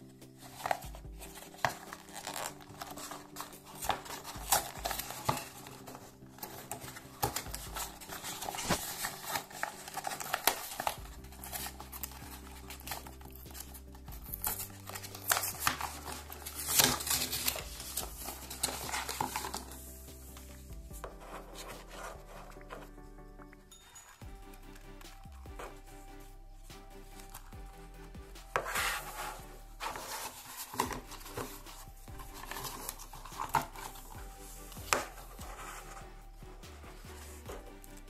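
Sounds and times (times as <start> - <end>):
cardboard rustling and scraping: 0.0 - 23.1, 28.5 - 36.4, 37.0 - 38.0.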